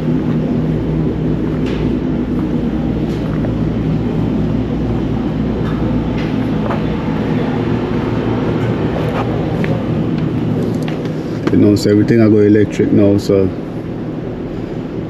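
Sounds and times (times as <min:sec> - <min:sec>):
vehicle rumble: 0:00.0 - 0:12.6.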